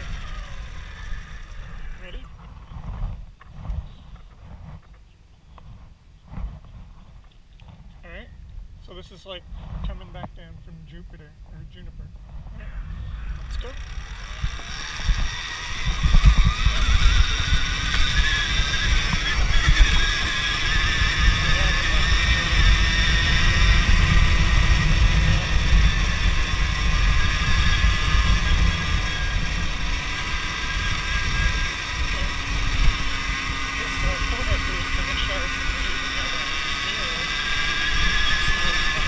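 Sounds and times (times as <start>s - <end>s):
electric motor whine: 0.0s - 4.9s, 12.4s - 39.0s
wind buffeting the camera: 0.0s - 39.0s.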